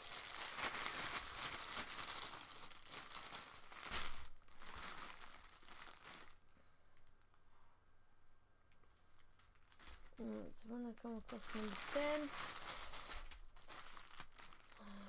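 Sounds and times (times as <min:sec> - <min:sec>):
plastic crinkling and rustling: 0:00.0 - 0:07.1, 0:08.8 - 0:15.0.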